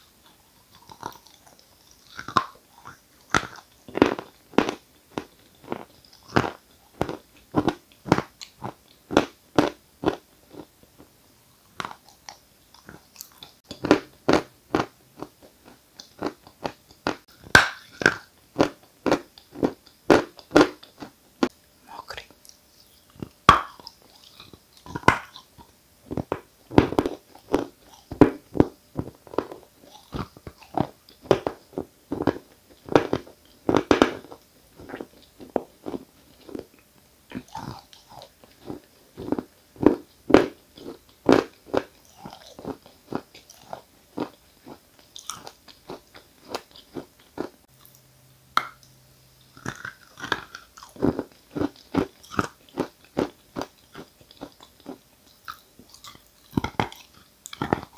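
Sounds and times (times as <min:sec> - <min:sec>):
person chewing crunchy chalk: 0:00.0 - 0:48.0, 0:48.6 - 0:57.9.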